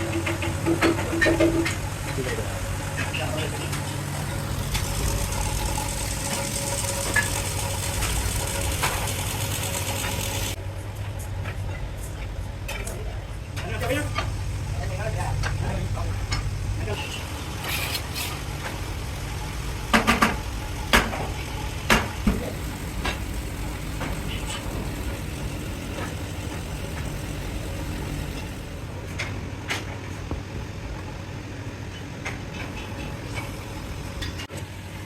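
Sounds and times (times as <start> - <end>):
factory machinery hum: 0.0 - 35.0.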